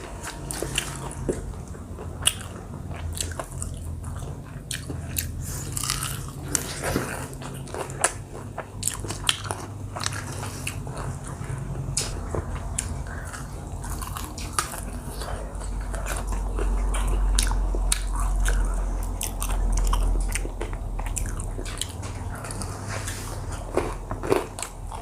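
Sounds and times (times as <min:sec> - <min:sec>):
crunching and chewing fried food: 0:00.0 - 0:25.0.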